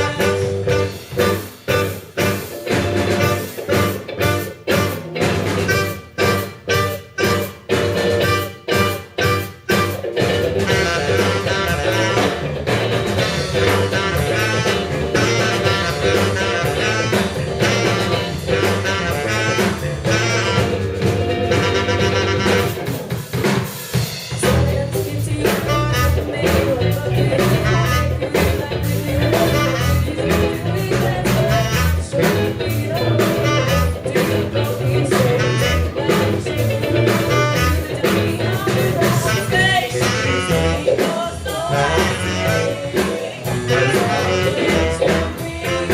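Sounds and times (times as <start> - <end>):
tenor saxophone: 0.0 - 12.8, 13.4 - 23.1, 25.4 - 26.4, 27.4 - 28.4, 29.2 - 30.7, 31.3 - 38.3, 38.9 - 45.9
live funk-rock band: 0.0 - 45.9.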